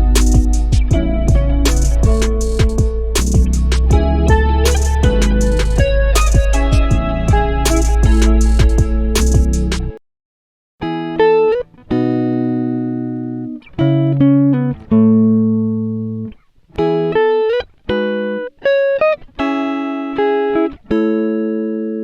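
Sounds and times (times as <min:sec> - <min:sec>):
plucked guitar melody: 0:00.0 - 0:10.0, 0:10.8 - 0:22.0.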